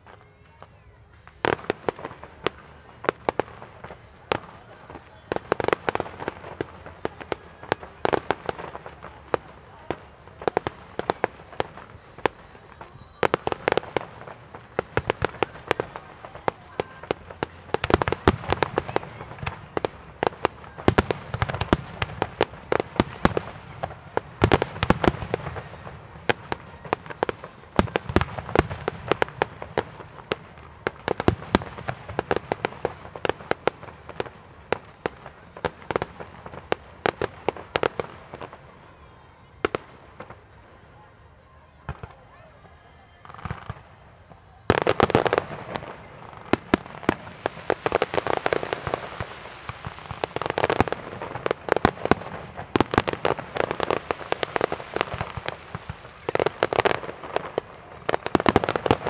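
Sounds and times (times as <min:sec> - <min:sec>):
fireworks bursts and bangs: 0:00.0 - 0:59.0.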